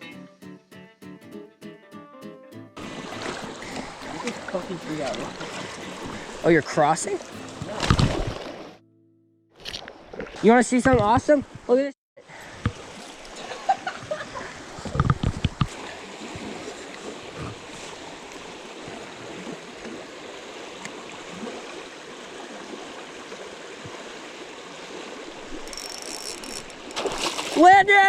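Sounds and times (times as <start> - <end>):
creek water running: 2.8 - 8.8, 9.7 - 28.0.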